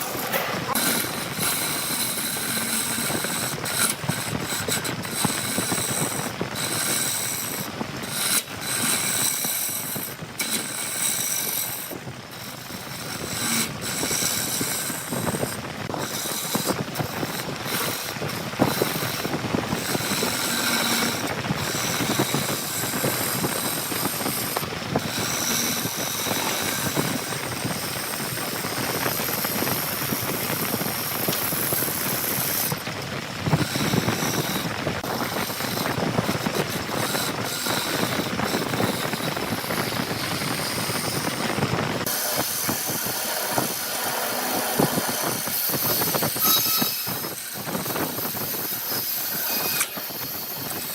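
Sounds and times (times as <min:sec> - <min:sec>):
woodworking machine rattling: 0:00.0 - 0:50.9.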